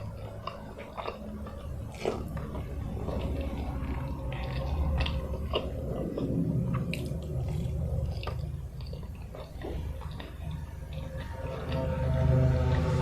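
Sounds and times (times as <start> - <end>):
wet chewing and mouth smacks: 0.0 - 12.4
low steady hum: 0.0 - 13.0.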